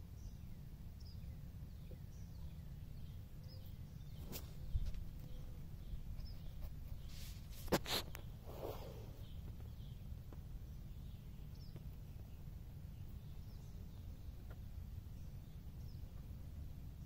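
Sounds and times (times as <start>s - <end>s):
faint bird chirps: 0.0s - 17.0s
steady low rumble: 0.0s - 17.0s.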